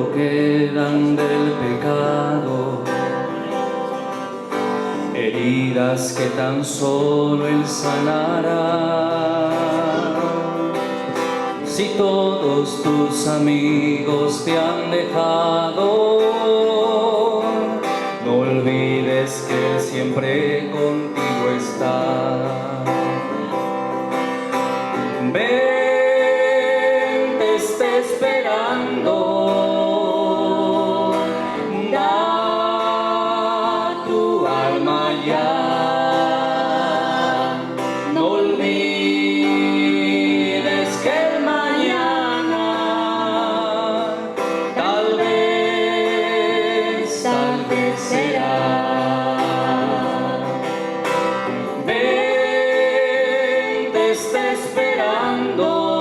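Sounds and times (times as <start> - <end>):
person singing worship song: 0.0 - 24.1, 24.7 - 56.0.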